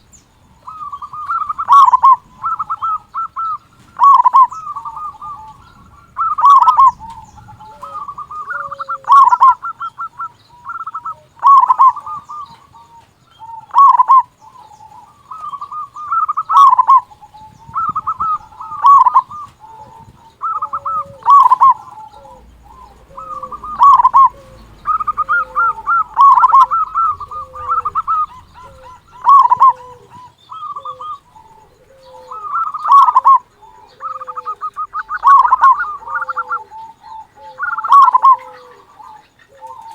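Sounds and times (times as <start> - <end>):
dove cooing loudly: 0.0 - 39.9.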